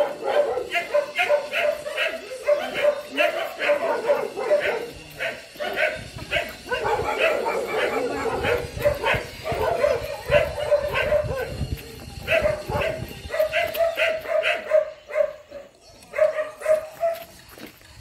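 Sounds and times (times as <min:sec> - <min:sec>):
dog barking: 0:00.0 - 0:11.6, 0:12.2 - 0:17.3.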